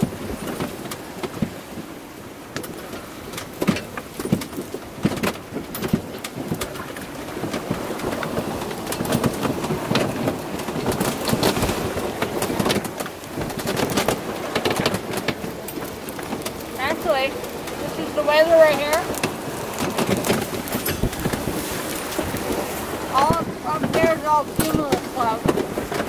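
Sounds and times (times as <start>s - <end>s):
water splashing along hull: 0.0s - 26.0s
wind buffeting microphone: 0.0s - 26.0s.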